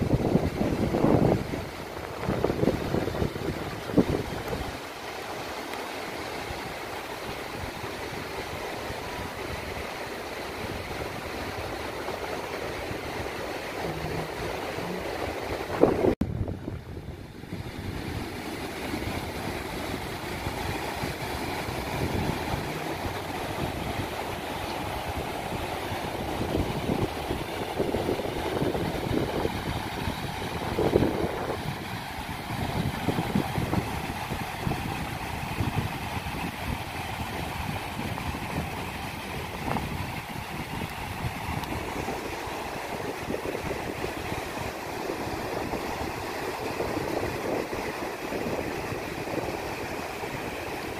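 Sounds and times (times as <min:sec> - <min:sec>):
wind buffeting microphone: 0:00.0 - 0:05.6, 0:06.3 - 0:50.9
waves breaking on beach: 0:00.0 - 0:50.9.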